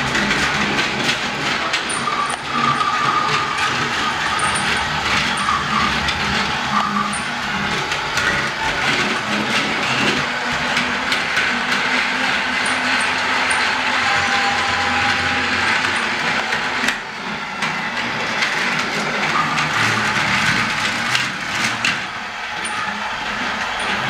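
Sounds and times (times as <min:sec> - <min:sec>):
toy train electric motor running: 0:00.0 - 0:24.0
wheels clicking on plastic track: 0:00.0 - 0:24.0.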